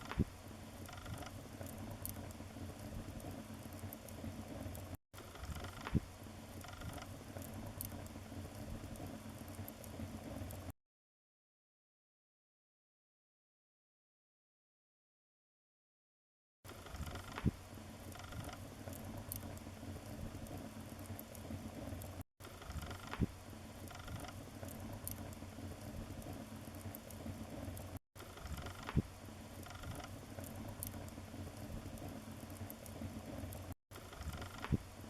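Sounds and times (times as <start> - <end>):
wood fire crackling: 0.0 - 10.7, 16.7 - 35.0.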